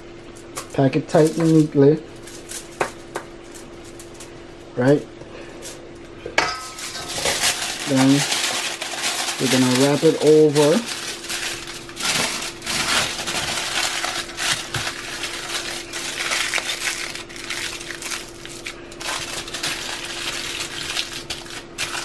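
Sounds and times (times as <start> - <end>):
steady low hum: 0.0 - 22.0
aluminium foil crinkling: 0.5 - 4.4, 6.6 - 22.0.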